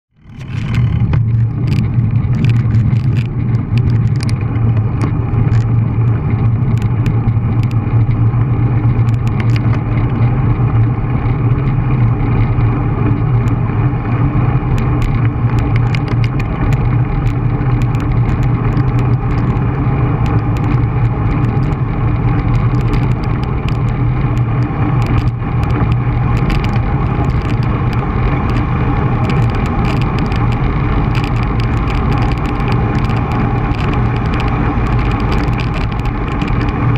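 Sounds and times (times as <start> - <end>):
tyre and road noise: 0.1 - 36.9
small clicks: 0.2 - 10.3, 14.7 - 36.9
wind rush on microphone: 0.2 - 36.9.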